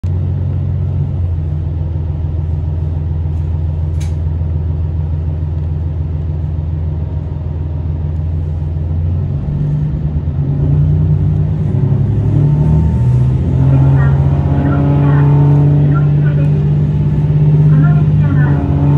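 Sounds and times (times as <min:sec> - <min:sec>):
diesel railcar engine drone: 0:00.0 - 0:18.9.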